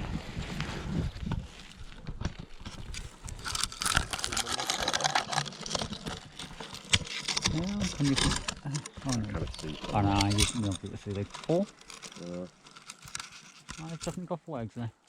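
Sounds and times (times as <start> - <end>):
branches rustling against camera: 0.0 - 14.4.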